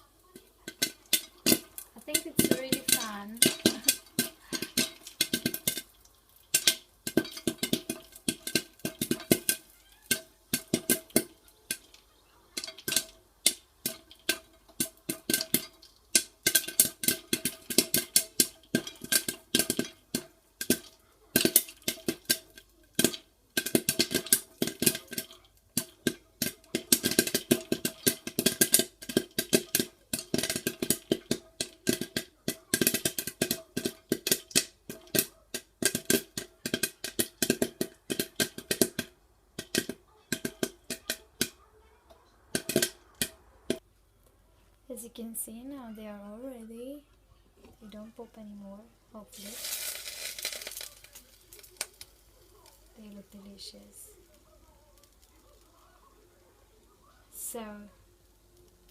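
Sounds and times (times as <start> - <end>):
popcorn popping against metal lid: 0.0 - 44.2, 45.0 - 58.9.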